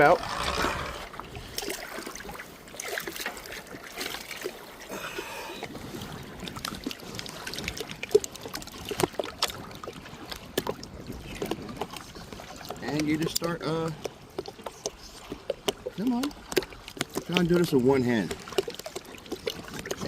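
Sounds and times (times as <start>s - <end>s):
water splashing and lapping: 0.0s - 20.0s.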